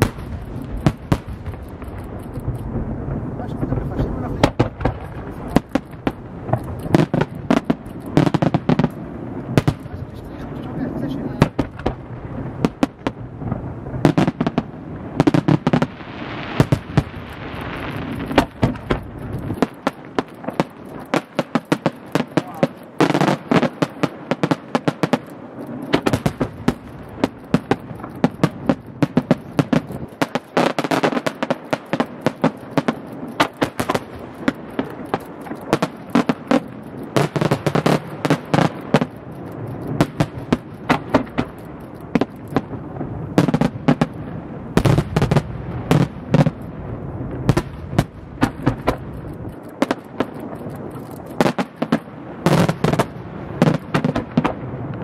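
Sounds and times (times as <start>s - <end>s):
firework shell booms: 0.0s - 49.1s, 49.8s - 55.0s
fireworks crackling: 0.0s - 55.0s.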